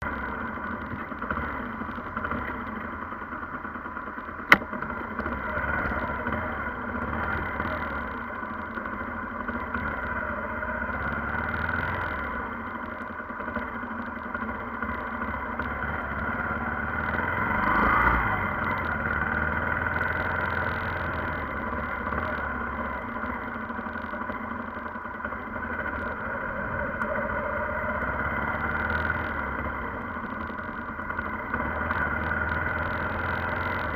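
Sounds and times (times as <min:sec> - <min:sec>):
road noise: 0:00.0 - 0:33.9
vehicle engine running: 0:00.0 - 0:33.9.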